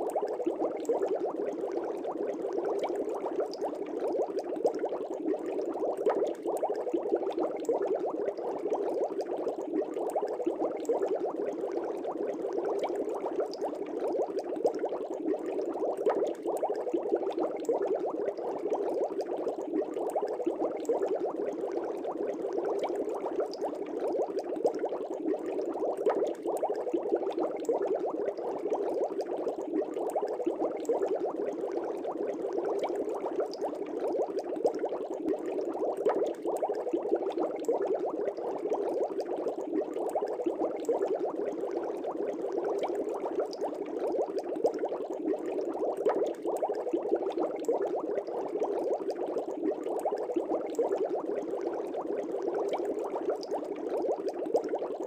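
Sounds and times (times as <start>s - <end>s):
aquarium air bubbling: 0.0s - 55.0s.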